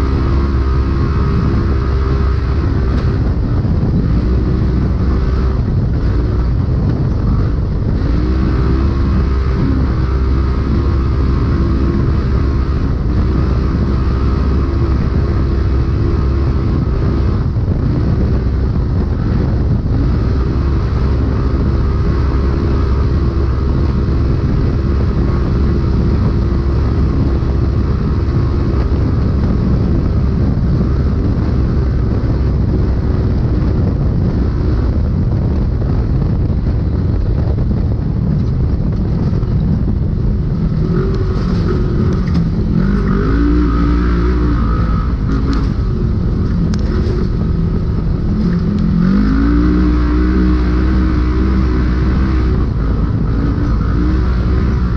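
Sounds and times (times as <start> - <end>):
road and wind noise: 0.0 - 54.9
vehicle engine running hard: 0.0 - 54.9.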